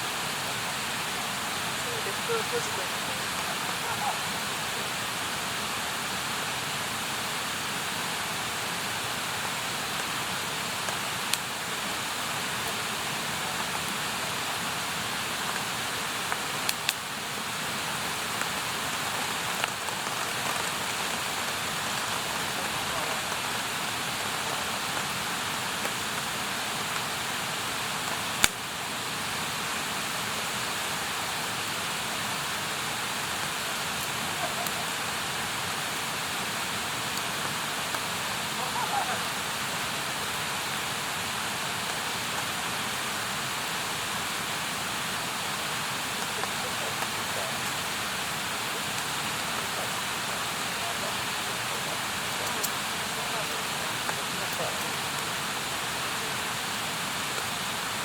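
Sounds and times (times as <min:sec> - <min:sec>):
campfire hissing and crackling: 0:00.0 - 0:58.0.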